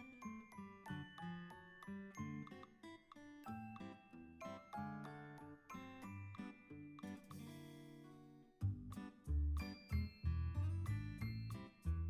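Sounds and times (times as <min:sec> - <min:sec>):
bouncy music with ringing notes: 0:00.0 - 0:12.0.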